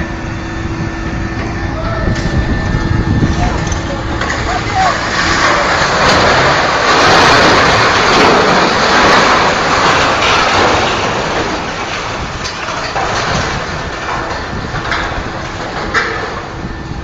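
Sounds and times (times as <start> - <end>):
large vehicle rumbling: 0.0 - 17.0.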